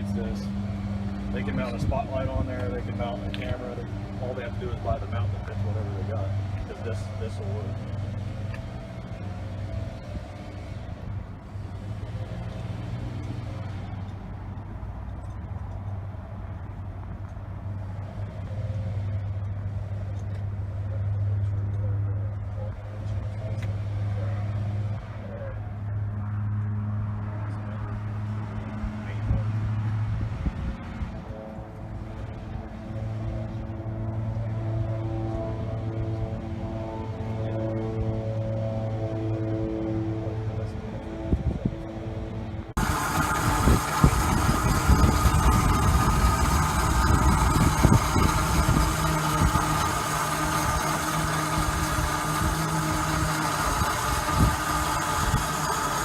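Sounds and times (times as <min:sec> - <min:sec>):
helicopter turbine engine idling: 0:00.0 - 0:56.0
low mechanical hum: 0:00.0 - 0:56.0.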